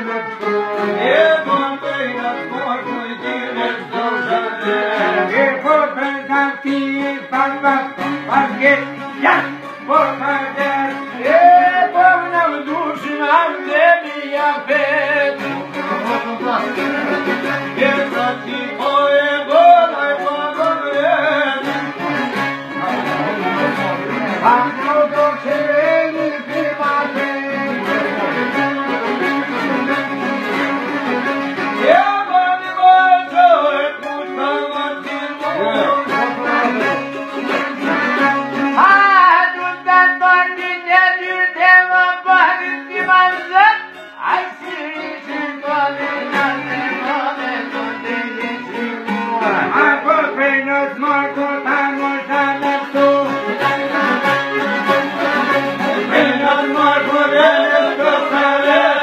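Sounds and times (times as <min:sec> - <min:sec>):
string instrument drone: 0:00.0 - 0:40.0, 0:51.0 - 0:59.0
man singing folk song: 0:00.0 - 0:59.0.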